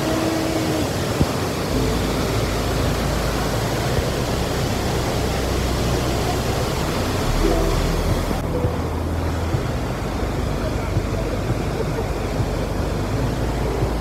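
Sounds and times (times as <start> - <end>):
waterfall rushing into pool: 0.0 - 14.0
low rumble: 1.7 - 14.0.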